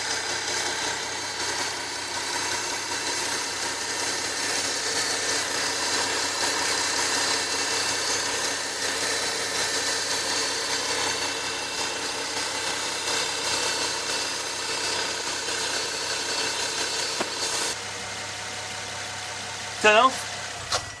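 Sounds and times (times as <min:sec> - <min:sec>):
car engine running: 0:00.0 - 0:21.0
high-pitched engine whine: 0:00.0 - 0:21.0.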